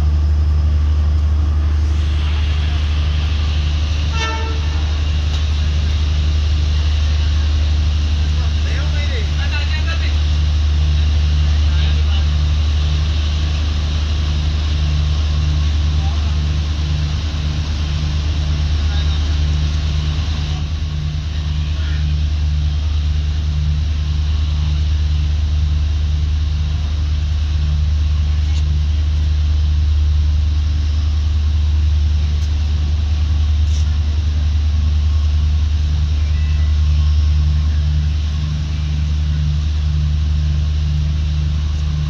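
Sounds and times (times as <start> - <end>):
diesel train throbbing drone: 0.0 - 42.0.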